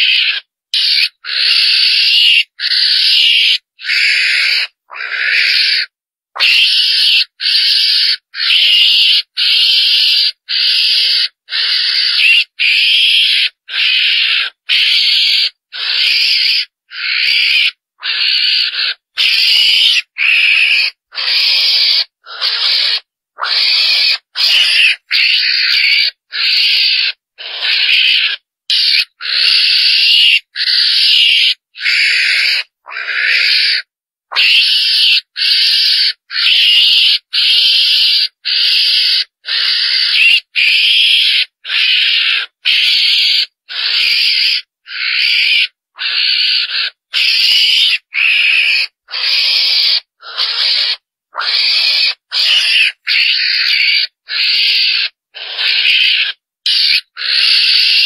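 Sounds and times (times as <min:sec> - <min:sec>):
mongoose cries: 0:00.0 - 0:58.0.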